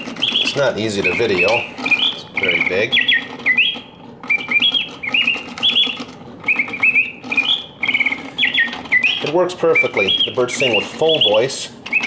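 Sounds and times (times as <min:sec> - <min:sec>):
faint low clockwork hum: 0:00.0 - 0:12.0
mechanical birdsong chirps and trills: 0:00.0 - 0:12.0.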